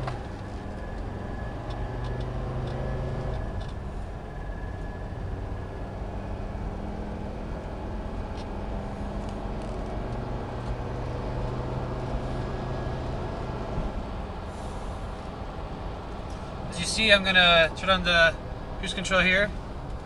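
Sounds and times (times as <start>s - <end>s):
car engine drone: 0.0s - 20.0s
road and wind noise: 0.0s - 20.0s.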